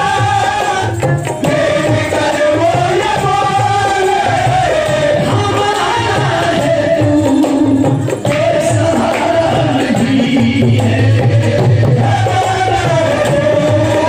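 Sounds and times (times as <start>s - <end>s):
hand drum beat: 0.0s - 14.0s.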